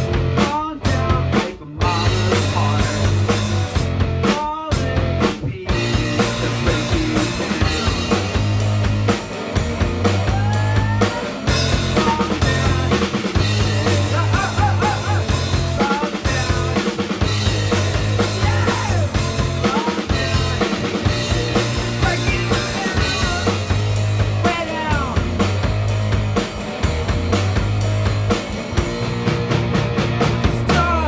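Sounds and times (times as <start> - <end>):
rock band playing: 0.0 - 31.0.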